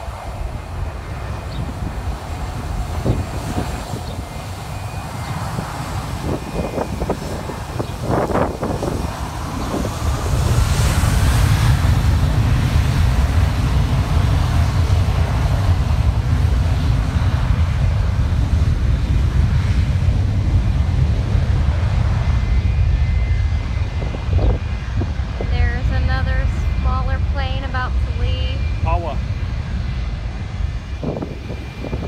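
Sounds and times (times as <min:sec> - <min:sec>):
jet engines roaring: 0:00.0 - 0:32.0
wind buffeting microphone: 0:00.0 - 0:32.0.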